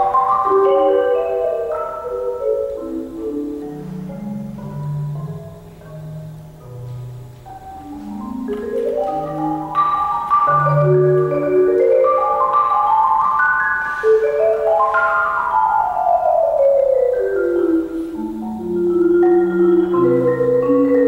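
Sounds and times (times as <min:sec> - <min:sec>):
marimba playing: 0:00.0 - 0:21.0.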